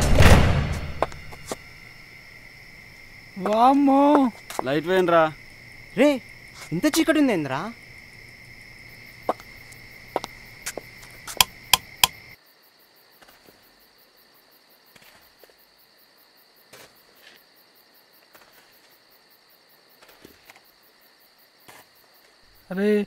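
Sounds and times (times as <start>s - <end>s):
crickets chirring: 0.6s - 23.0s.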